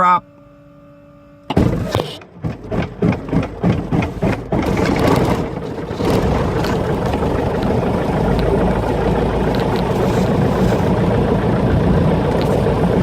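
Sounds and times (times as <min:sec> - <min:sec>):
aircraft piston engine starting: 0:01.5 - 0:13.0.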